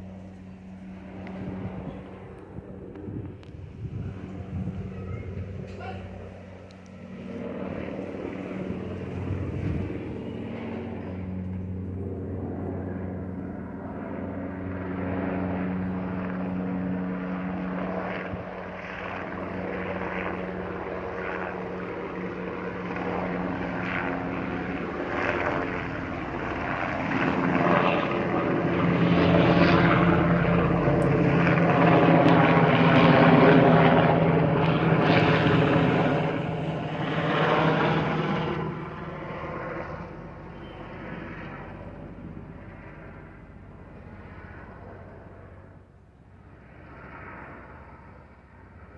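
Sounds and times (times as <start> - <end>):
helicopter droning: 0.0 - 48.9.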